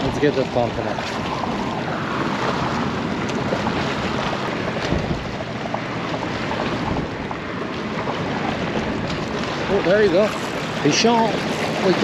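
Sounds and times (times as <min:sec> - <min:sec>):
water splashing against rocks: 0:00.0 - 0:12.0
wind buffeting microphone: 0:00.0 - 0:12.0.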